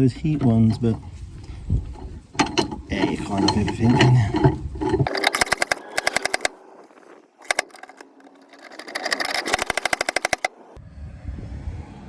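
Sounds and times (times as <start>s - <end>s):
ratchet tool clicking: 0.8s - 10.6s.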